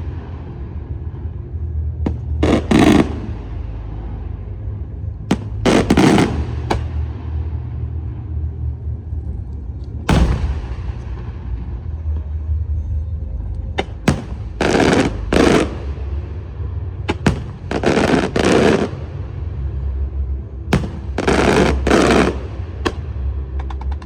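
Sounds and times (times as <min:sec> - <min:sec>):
fireworks bangs and crackling: 0:00.0 - 0:08.4, 0:10.0 - 0:12.4, 0:13.7 - 0:19.5, 0:20.7 - 0:24.0
low rumble: 0:00.0 - 0:24.0.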